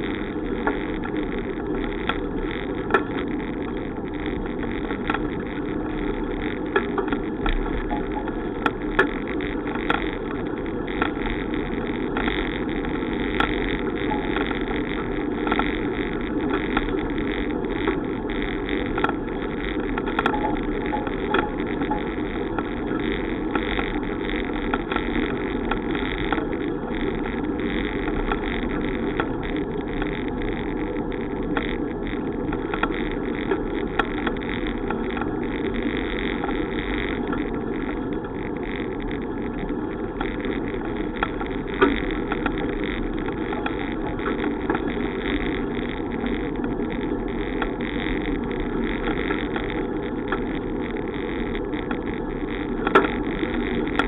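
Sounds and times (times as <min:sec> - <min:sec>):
bicycle road noise: 0:00.0 - 0:54.0
small clicks and rattles: 0:00.0 - 0:54.0.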